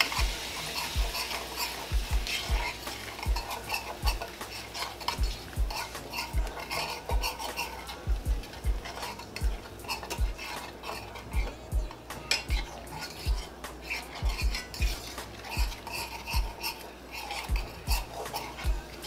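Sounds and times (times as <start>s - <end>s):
utensil scraping a skillet: 0.0s - 19.0s.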